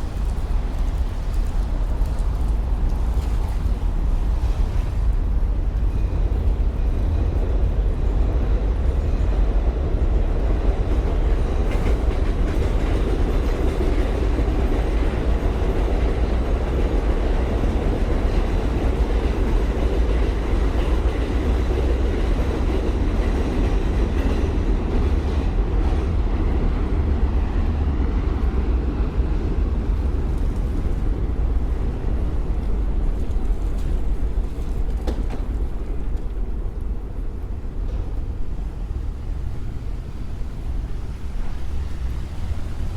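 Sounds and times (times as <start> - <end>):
elevated subway train running: 0.0 - 42.9.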